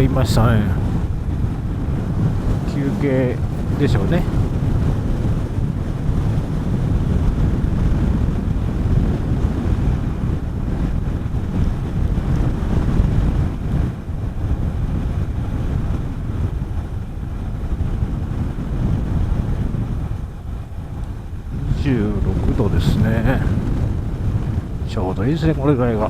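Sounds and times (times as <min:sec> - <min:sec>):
motorcycle low rumble: 0:00.0 - 0:26.0
wind buffeting microphone: 0:00.0 - 0:26.0.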